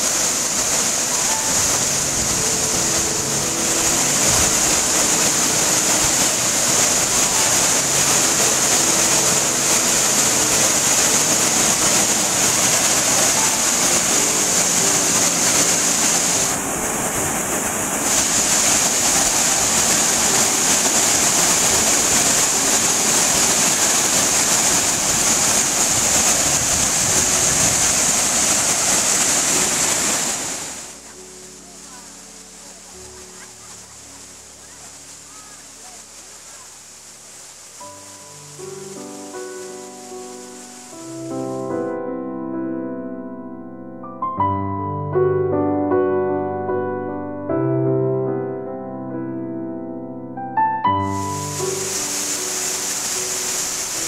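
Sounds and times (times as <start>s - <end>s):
waterfall rushing into a pool: 0.0s - 42.5s, 50.8s - 54.0s.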